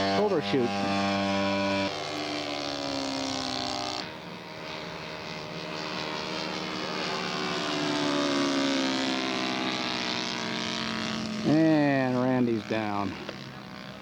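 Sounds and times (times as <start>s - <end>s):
model airplane engine buzzing: 0.0s - 14.0s.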